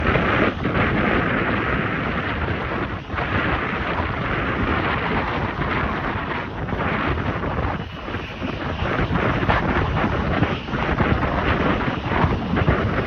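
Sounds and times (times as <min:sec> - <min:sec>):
gusty wind on microphone: 0:00.0 - 0:13.0.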